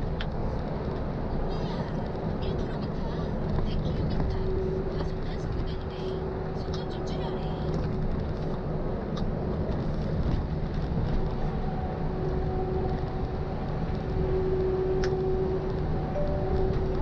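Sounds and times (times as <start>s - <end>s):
truck engine and tyre rumble: 0.0s - 17.0s
faint whining tone: 0.2s - 8.4s, 9.6s - 17.0s.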